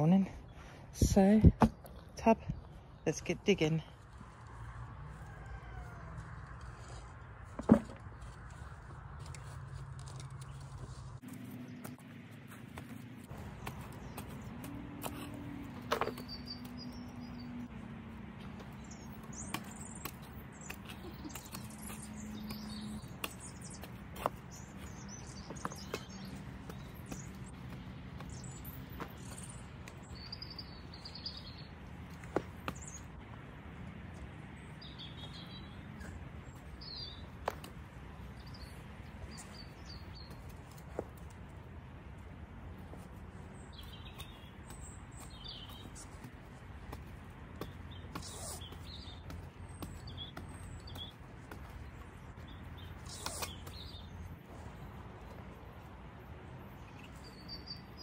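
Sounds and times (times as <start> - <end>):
small birds chirping: 10.4 - 33.2, 34.4 - 58.0.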